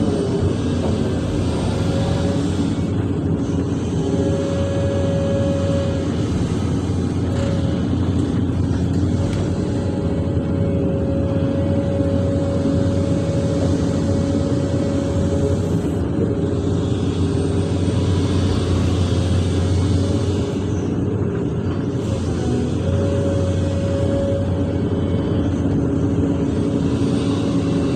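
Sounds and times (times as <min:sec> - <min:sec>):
excavator diesel engine drone: 0:00.0 - 0:27.9
hydraulics whining: 0:00.0 - 0:27.9.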